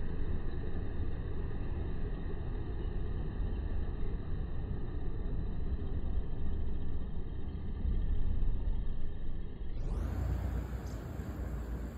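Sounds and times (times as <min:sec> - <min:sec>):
low rumbling background noise: 0:00.0 - 0:11.9.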